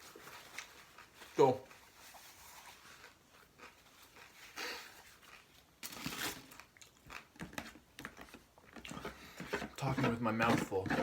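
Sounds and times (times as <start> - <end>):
chewing and crunching taco: 0.0 - 9.4.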